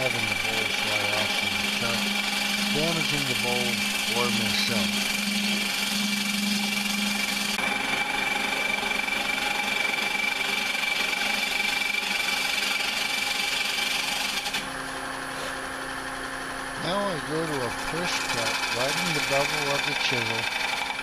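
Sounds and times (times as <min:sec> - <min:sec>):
gouge scraping wood on lathe: 0:00.0 - 0:14.7, 0:17.3 - 0:21.0
lathe motor hum: 0:00.0 - 0:21.0.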